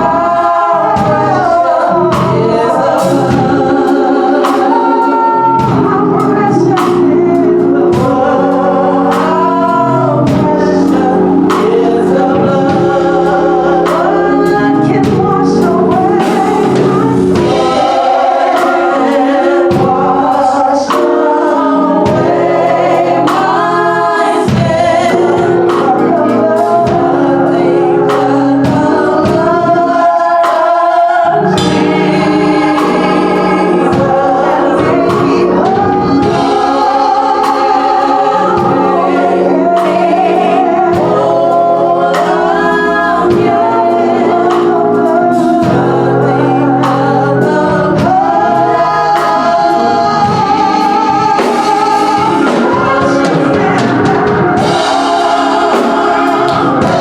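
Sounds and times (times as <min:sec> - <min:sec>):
gospel choir singing: 0:00.0 - 0:57.0
steady rhythmic accompaniment: 0:00.0 - 0:57.0.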